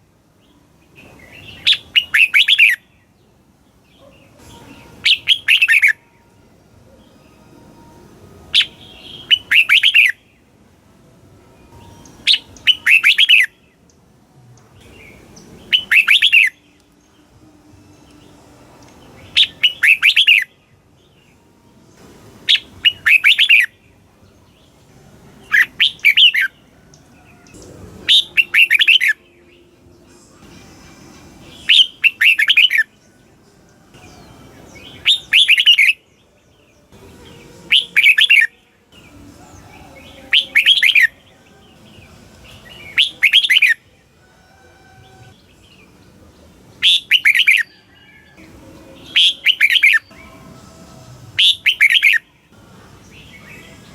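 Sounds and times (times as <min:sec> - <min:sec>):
bulbul singing: 0:00.0 - 0:53.9.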